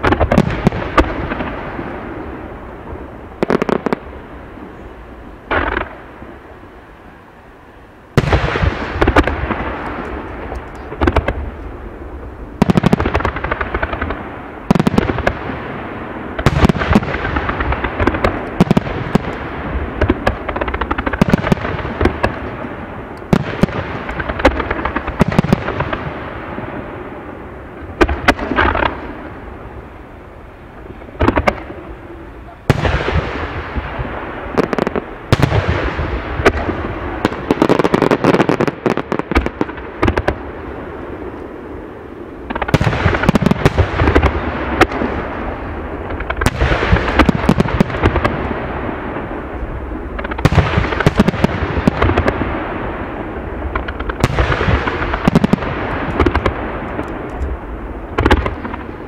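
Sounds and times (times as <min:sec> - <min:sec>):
firework bangs with echoing rumble: 0:00.0 - 0:06.5, 0:08.1 - 0:59.0
firework crackling: 0:00.0 - 0:59.0.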